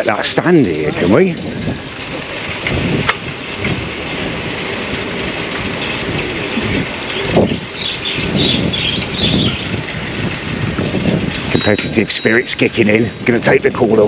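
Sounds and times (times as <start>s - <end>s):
bicycle rattling: 0.0s - 14.0s
wind buffeting microphone: 0.0s - 14.0s.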